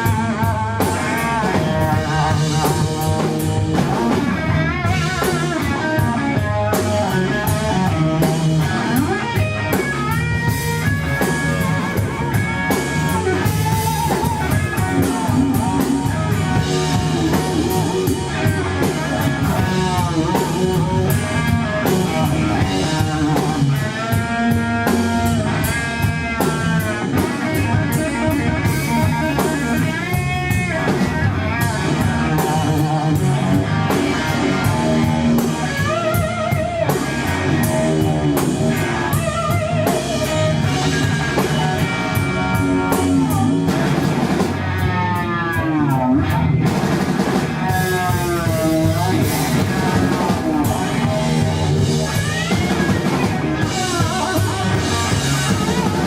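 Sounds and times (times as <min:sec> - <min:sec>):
lead electric guitar sliding notes: 0:00.0 - 0:56.0
rock band playing: 0:00.0 - 0:56.0.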